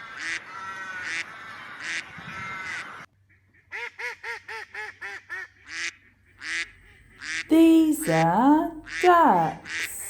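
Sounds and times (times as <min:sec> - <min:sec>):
ducks quacking: 0:00.0 - 0:10.0.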